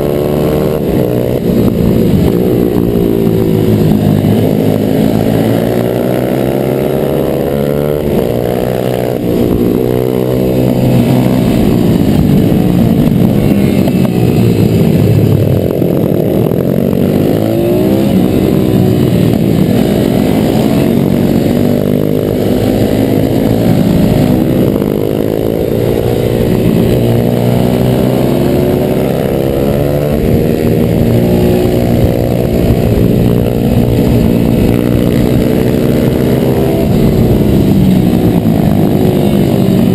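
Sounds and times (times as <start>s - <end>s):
motorbike engine revving: 0.0s - 39.9s
other motorbikes nearby: 0.0s - 39.9s.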